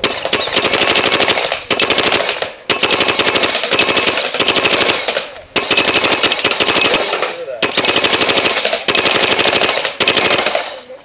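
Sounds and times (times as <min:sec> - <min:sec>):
paintball marker rapid firing: 0:00.0 - 0:10.8.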